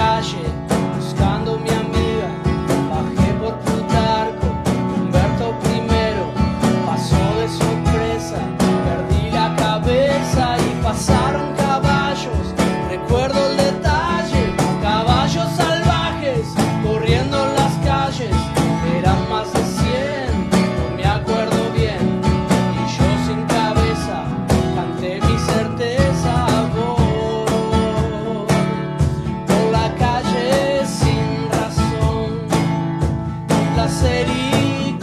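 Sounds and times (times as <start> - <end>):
bending melody line: 0.0 - 28.8
acoustic bass guitar: 0.0 - 35.0
cajon beat: 0.0 - 35.0
strummed acoustic guitar: 0.0 - 35.0.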